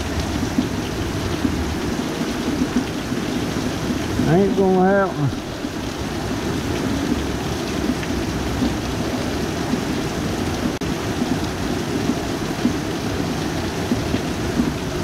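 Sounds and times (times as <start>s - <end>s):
heavy rain pouring: 0.0s - 15.0s
water running over gutters: 0.0s - 15.0s.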